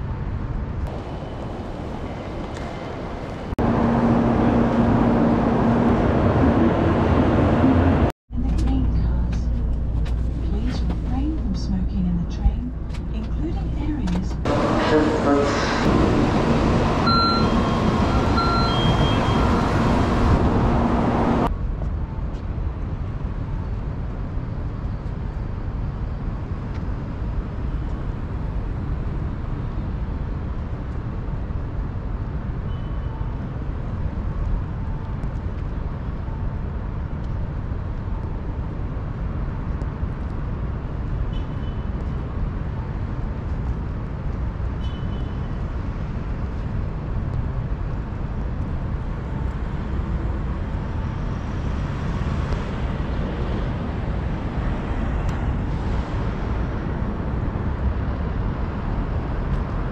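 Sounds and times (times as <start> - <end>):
low traffic rumble: 0.0 - 59.9.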